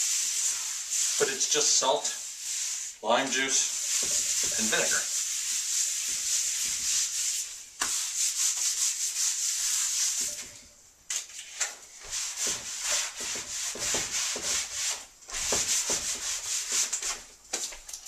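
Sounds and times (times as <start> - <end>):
scrubbing wooden board with salt: 0.0 - 10.5, 12.0 - 17.3.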